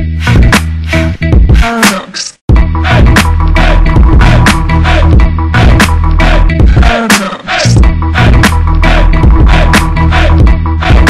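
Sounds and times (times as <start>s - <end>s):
theme music with drums and bass: 0.0s - 11.0s.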